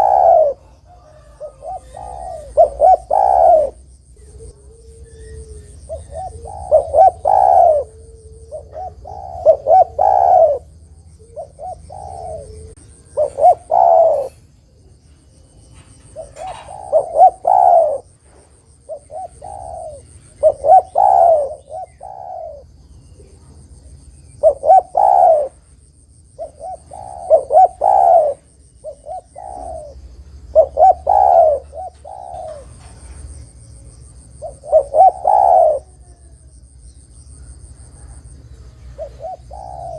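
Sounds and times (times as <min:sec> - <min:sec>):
dove cooing: 0:00.0 - 0:36.7, 0:37.3 - 0:39.9.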